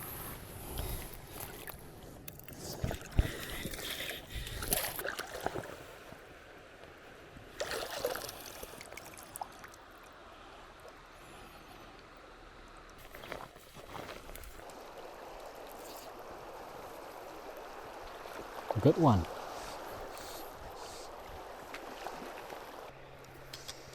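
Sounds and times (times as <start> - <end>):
faint wash of water: 0.0 - 6.6, 7.3 - 12.0, 13.0 - 23.9
water splashing and sloshing: 0.0 - 12.1, 12.8 - 23.9.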